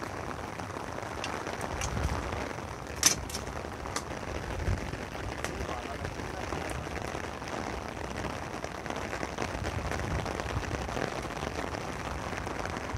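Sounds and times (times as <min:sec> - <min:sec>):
rain on umbrella: 0:00.0 - 0:12.9.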